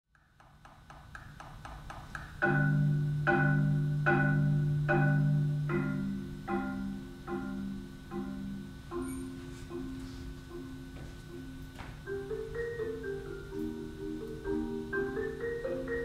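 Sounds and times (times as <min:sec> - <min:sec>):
solo marimba: 0:02.2 - 0:16.0.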